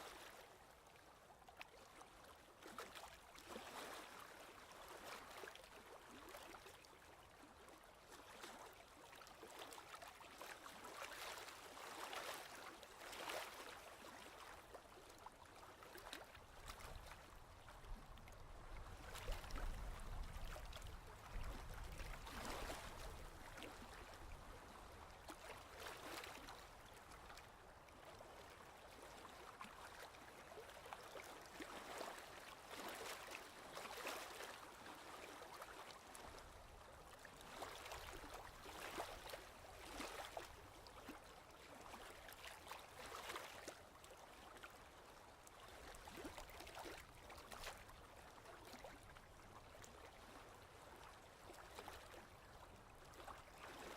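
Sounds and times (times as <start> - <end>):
faint ocean waves: 2.9 - 53.9.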